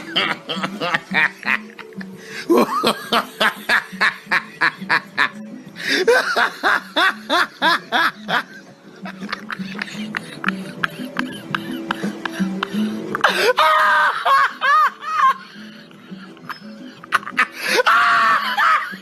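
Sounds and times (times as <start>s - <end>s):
person laughing: 0.0s - 19.0s.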